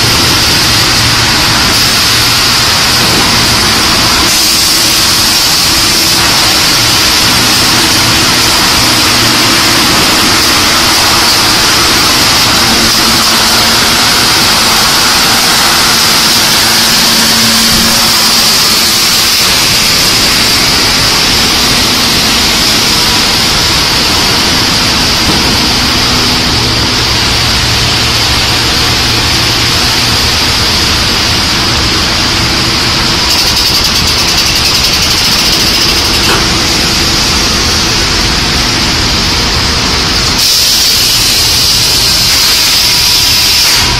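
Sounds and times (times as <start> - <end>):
sanding machinery running: 0.0 - 43.9.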